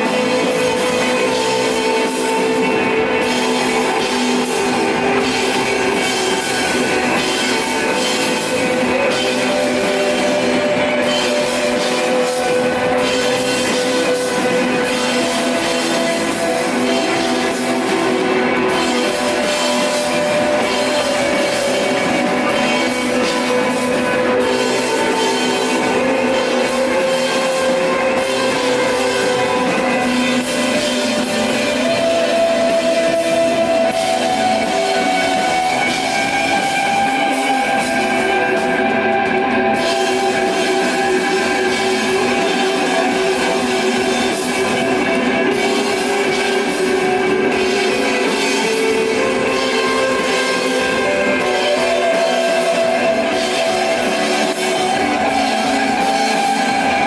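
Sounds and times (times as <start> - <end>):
drums and cymbals: 0.0 - 57.0
electric guitar long notes: 0.0 - 57.0.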